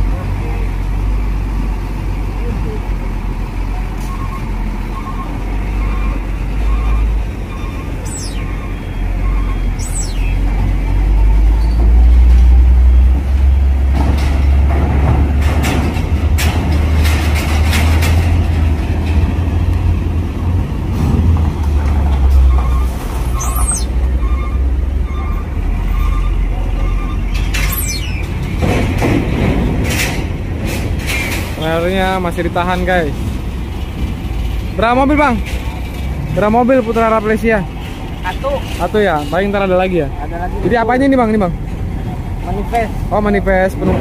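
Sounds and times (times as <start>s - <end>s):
diesel vehicles rumbling: 0.0s - 44.0s.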